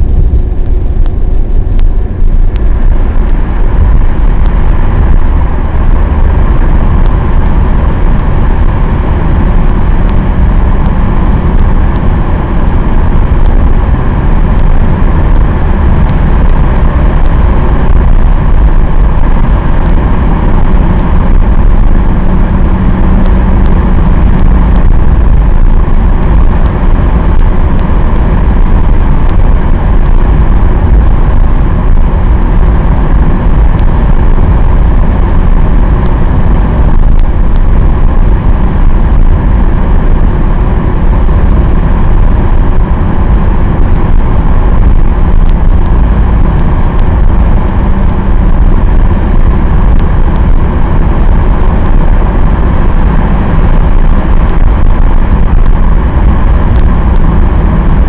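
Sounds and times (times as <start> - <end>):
diesel engine and tyre drone: 0.0 - 58.0.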